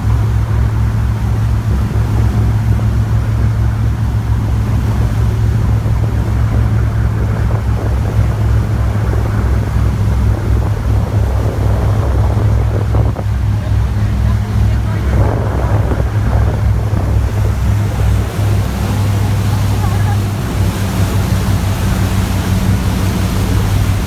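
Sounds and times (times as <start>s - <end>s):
boat engine droning: 0.0s - 24.0s
rushing water: 0.0s - 24.0s
wind: 0.0s - 24.0s.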